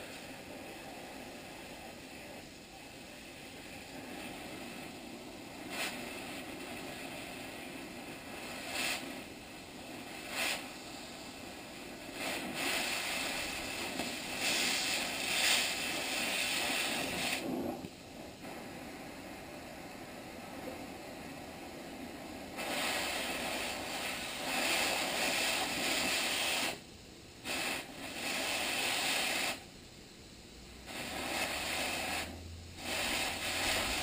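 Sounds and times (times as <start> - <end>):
cutting torch hissing: 0.0 - 34.0
oxygen blasts of torch hiss: 0.0 - 34.0.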